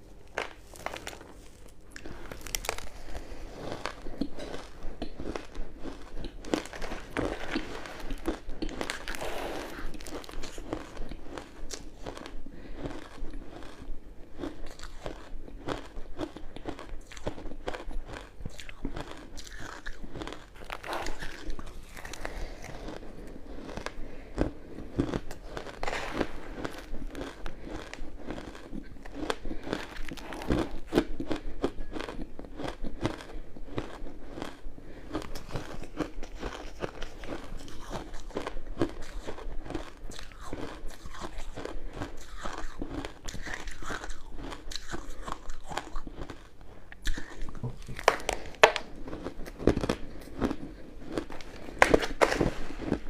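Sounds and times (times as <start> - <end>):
chewing crushed ice: 0.0 - 53.0.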